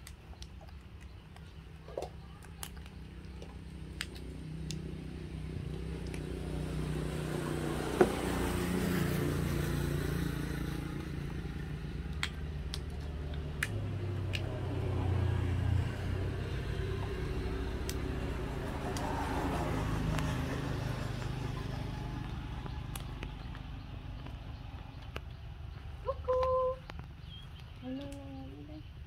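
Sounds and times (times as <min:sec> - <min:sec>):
vehicle engine running: 0:02.0 - 0:28.9.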